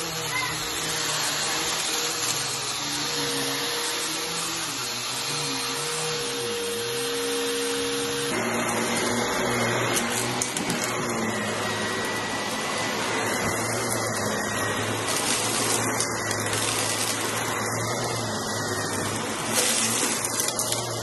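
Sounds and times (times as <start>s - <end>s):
vacuum cleaner on rug: 0.0s - 21.0s.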